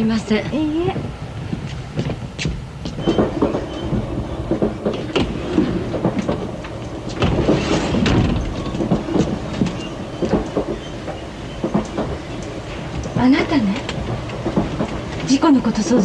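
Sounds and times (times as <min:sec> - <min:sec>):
train rumble: 0:00.0 - 0:16.0
wheels clicking over rail joints: 0:00.0 - 0:16.0.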